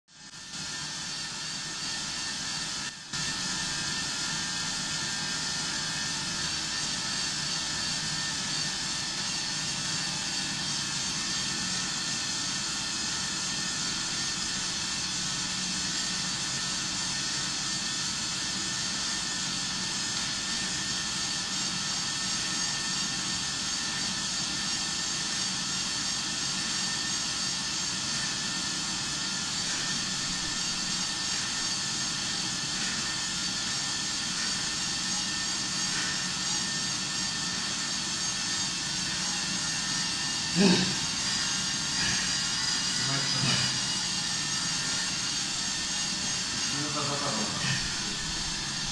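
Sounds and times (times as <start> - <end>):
exercise bike whirring: 0.1 - 48.9.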